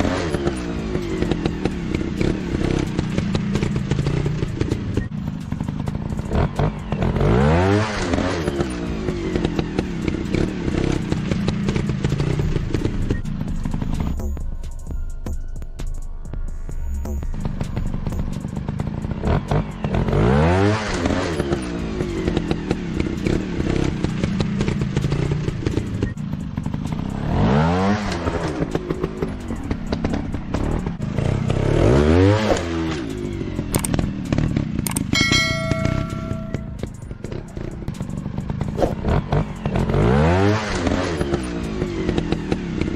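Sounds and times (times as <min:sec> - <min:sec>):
dirt bike engine revving: 0:00.0 - 0:14.2, 0:17.4 - 0:42.9.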